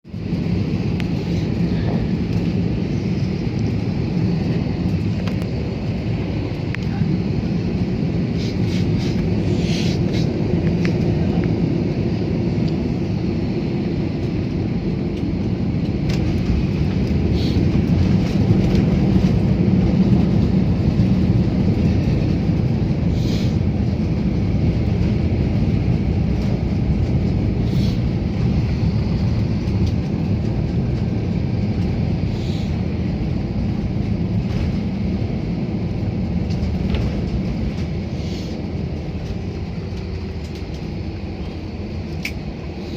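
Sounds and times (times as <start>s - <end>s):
airliner engine and airflow rumble: 0.0s - 42.9s.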